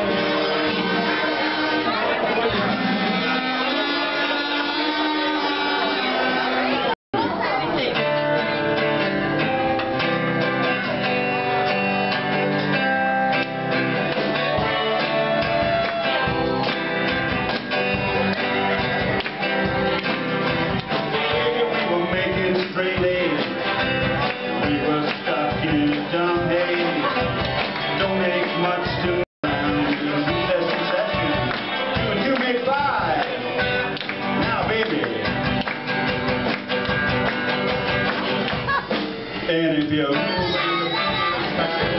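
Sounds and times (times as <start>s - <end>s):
drums: 0.0s - 41.9s
electric guitar: 0.0s - 41.9s
strummed acoustic guitar: 0.0s - 41.9s.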